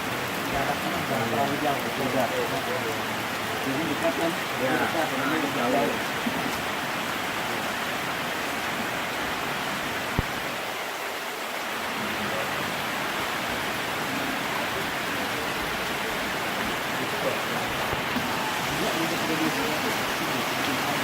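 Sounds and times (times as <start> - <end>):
heavy rain hiss: 0.0 - 21.0.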